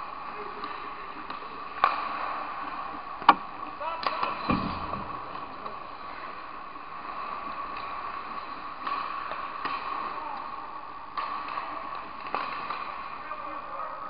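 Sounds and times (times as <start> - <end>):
hockey sticks and puck clacking: 0.4 - 6.2, 6.9 - 13.8.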